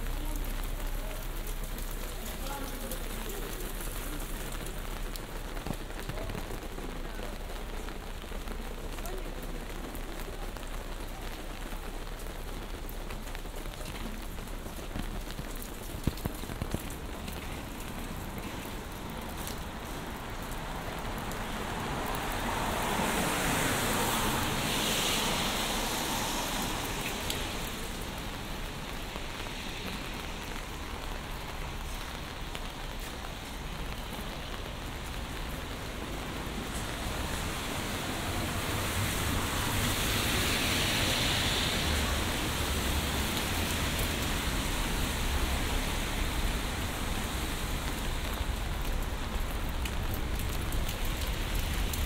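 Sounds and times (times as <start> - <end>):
rain on umbrella and pavement: 0.0 - 52.0.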